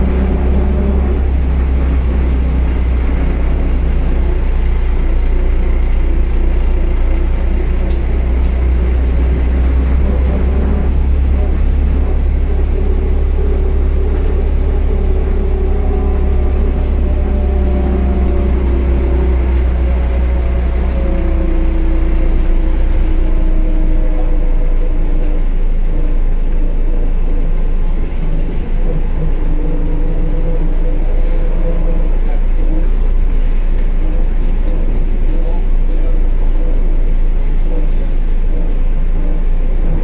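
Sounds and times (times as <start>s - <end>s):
trolleybus rumble: 0.0s - 40.0s.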